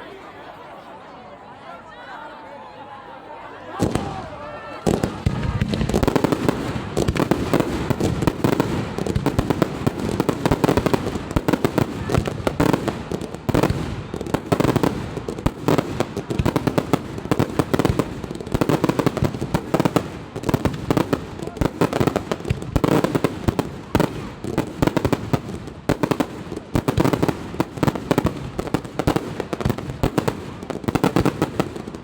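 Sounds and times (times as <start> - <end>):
fireworks bangs and crackling: 3.8 - 32.0.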